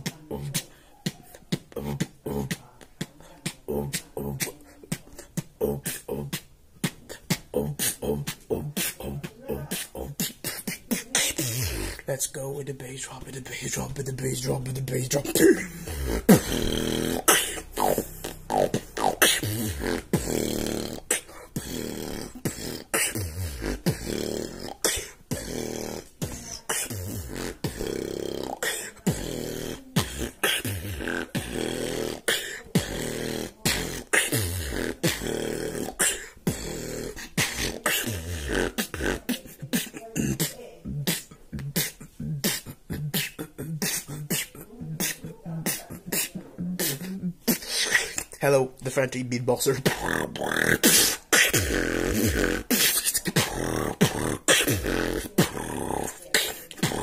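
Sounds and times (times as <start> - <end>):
person beatboxing: 0.0 - 57.0.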